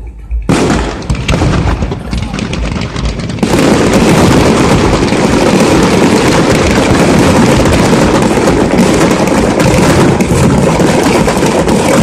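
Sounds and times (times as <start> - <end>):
fireworks barrage rumbling: 0.0 - 12.0.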